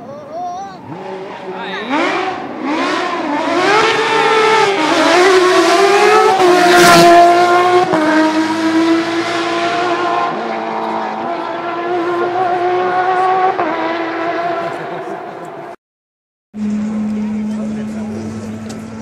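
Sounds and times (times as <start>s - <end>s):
rally car engine revving: 0.0s - 15.8s, 16.6s - 19.0s.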